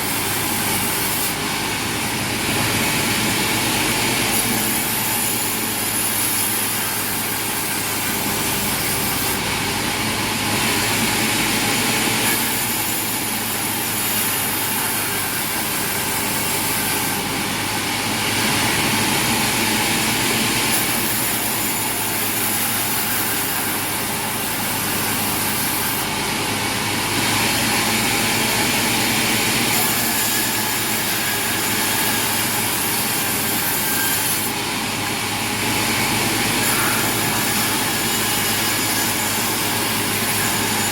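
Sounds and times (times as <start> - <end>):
saw cutting through wood: 0.0 - 40.9
sawmill machinery running: 0.0 - 40.9.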